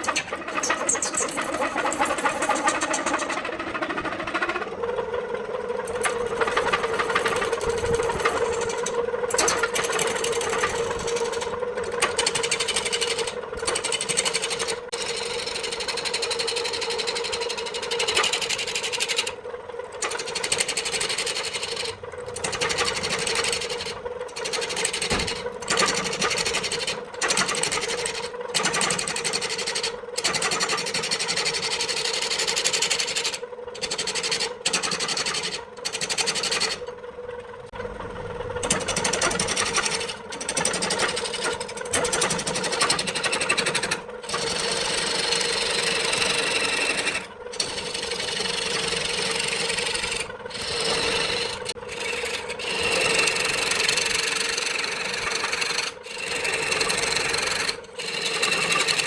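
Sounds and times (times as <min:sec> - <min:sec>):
tool scraping spinning wood: 0:00.0 - 0:59.0
wood lathe humming: 0:00.0 - 0:59.0.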